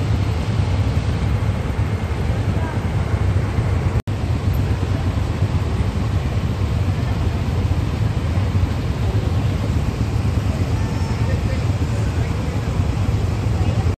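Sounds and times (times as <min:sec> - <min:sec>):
motorcycles idling: 0:00.0 - 0:14.0.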